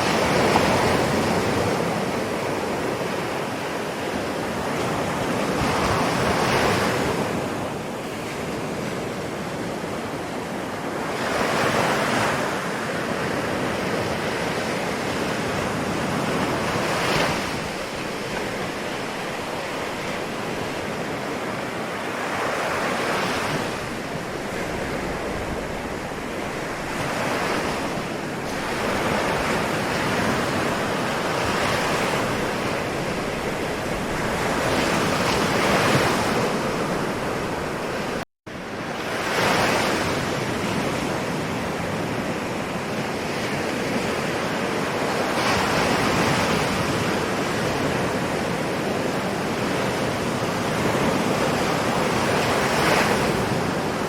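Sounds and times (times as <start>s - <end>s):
ocean surf: 0.0s - 54.0s.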